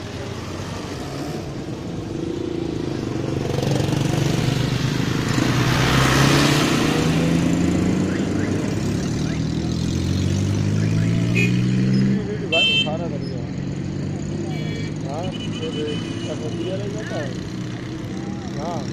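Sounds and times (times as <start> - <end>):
auto-rickshaw engines passing: 0.0 - 18.9
road traffic: 0.0 - 18.9.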